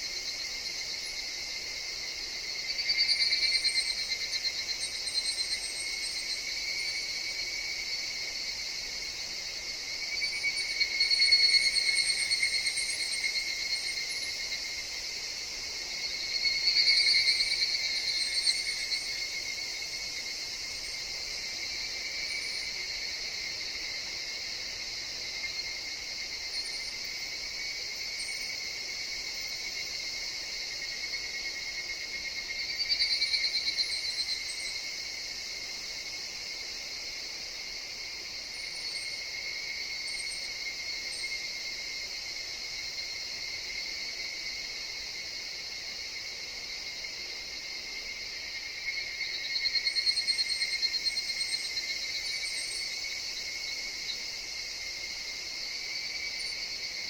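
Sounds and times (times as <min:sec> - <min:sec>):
cicadas and insects chorus: 0:00.0 - 0:57.0.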